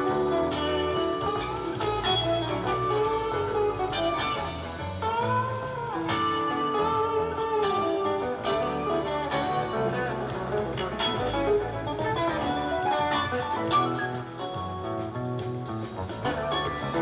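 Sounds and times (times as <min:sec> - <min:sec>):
electric guitar lead: 0:00.0 - 0:17.0
rock band playing: 0:00.0 - 0:17.0.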